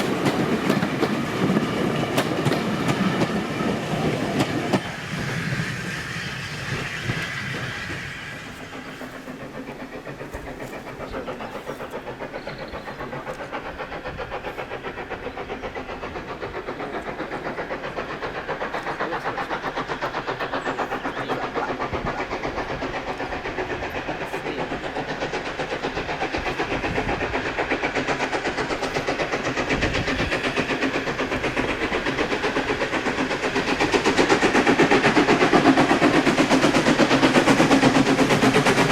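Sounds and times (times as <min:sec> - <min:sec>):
steam locomotive exhaust beat: 0:00.0 - 0:38.9.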